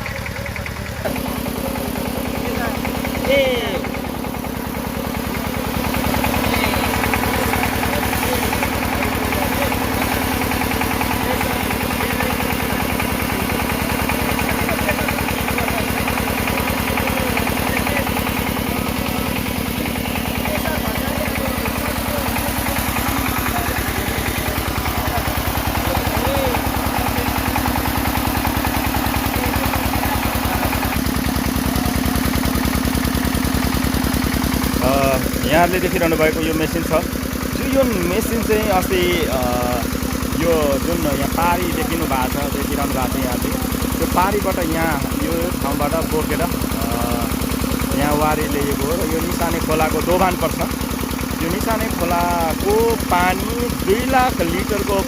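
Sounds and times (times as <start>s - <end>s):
boring rig engine running: 0.0s - 55.0s.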